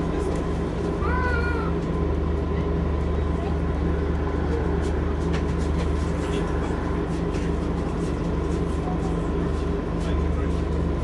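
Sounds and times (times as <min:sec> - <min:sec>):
bus diesel engine idling: 0:00.0 - 0:11.0.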